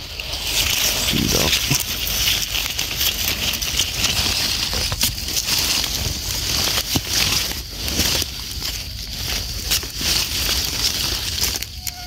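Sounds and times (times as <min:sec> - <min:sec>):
dry leaf litter crackling: 0:00.0 - 0:12.0.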